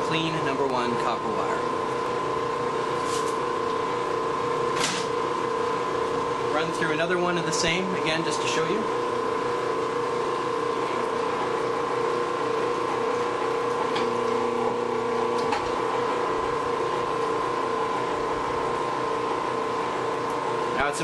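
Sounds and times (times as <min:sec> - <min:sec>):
wire stripping machine humming: 0:00.0 - 0:21.0.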